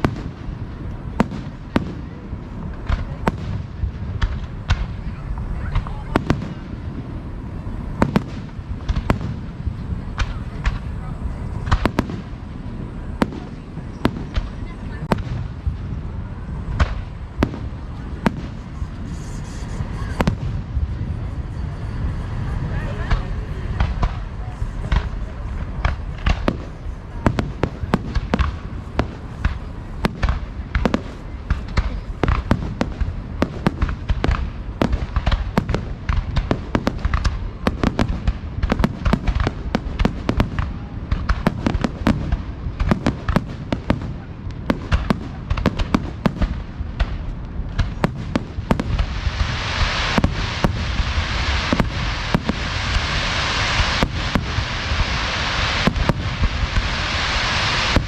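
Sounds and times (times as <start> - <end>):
fireworks bangs: 0.0 - 58.0
steady hissing wash: 0.0 - 58.0.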